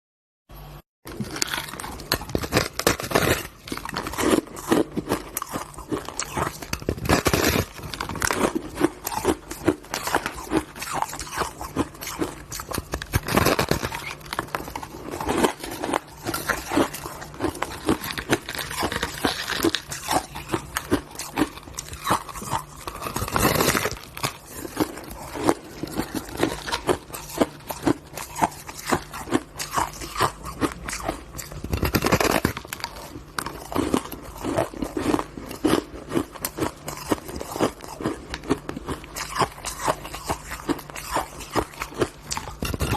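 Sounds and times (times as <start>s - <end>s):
person chewing crunchy ice: 0.6s - 42.9s.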